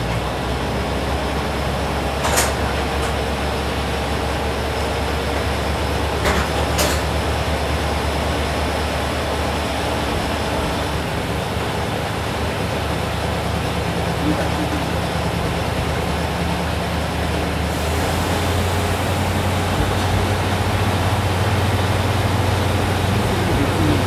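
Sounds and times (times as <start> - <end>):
diesel railcar engine drone: 0.0 - 24.0
wheels clacking over rail joints: 0.0 - 24.0.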